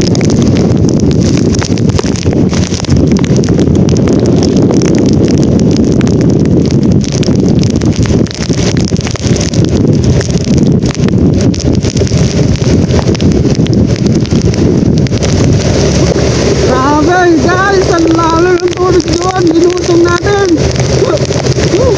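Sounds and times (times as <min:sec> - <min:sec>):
tyre noise on wet road: 0:00.0 - 0:21.9
wind buffeting microphone: 0:00.0 - 0:21.9.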